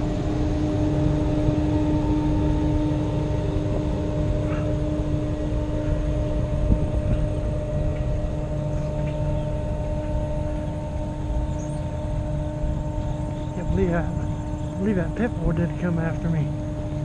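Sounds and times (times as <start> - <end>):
constant hum: 0.0 - 17.0
wind buffeting microphone: 0.0 - 17.0.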